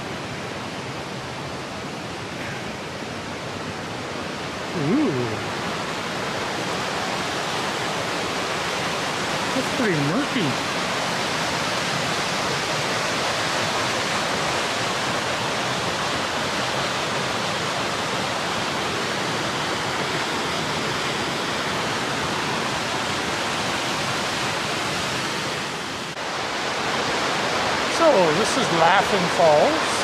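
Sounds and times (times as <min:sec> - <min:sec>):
river rushing over rocks: 0:00.0 - 0:30.0.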